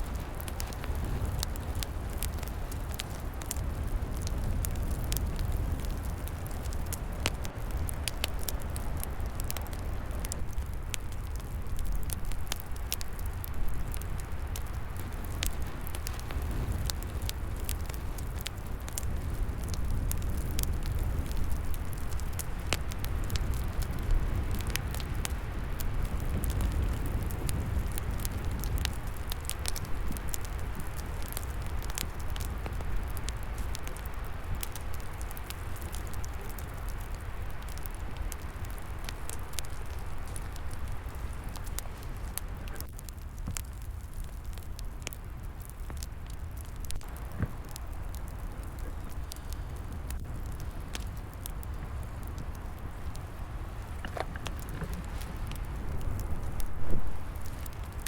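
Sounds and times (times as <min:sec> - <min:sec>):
low rumble of wind: 0:00.0 - 0:58.0
wood fire crackling and popping: 0:00.0 - 0:58.0.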